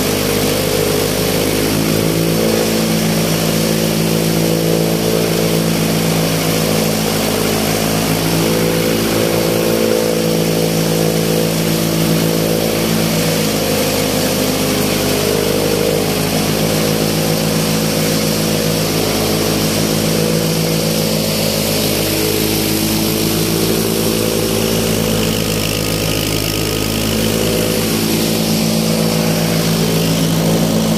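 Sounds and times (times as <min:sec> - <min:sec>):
chaff cutter chopping dry stalks: 0:00.0 - 0:30.9
engine humming: 0:00.0 - 0:30.9.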